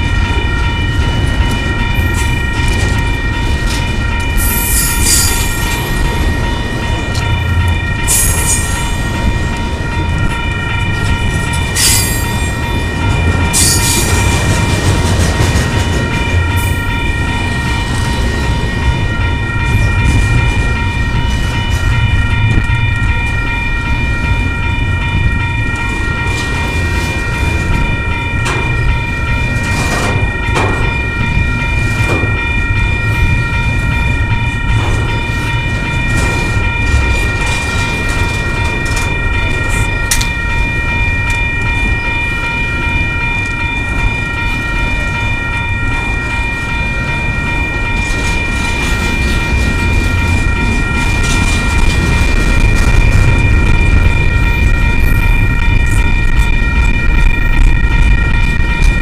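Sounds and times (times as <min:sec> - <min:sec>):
high ringing tone: 0:00.0 - 0:59.0
train cars clanking: 0:00.0 - 0:59.0
train wheels rumbling on rail: 0:00.0 - 0:59.0.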